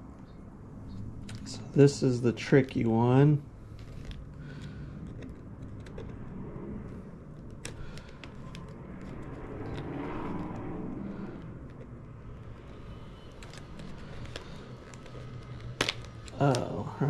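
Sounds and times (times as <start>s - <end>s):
vehicle passing: 0.6s - 17.0s.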